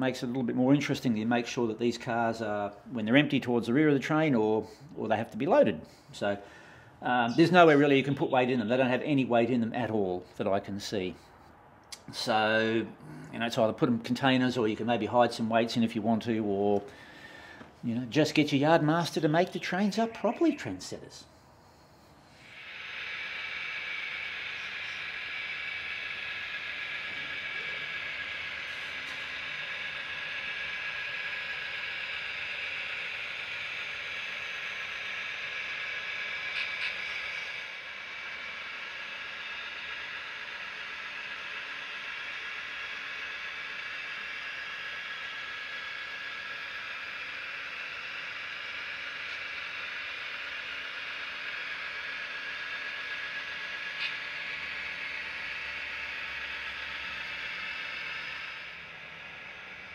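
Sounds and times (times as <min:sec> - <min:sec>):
model train whirring: 0:00.0 - 0:11.6, 0:12.2 - 0:59.9.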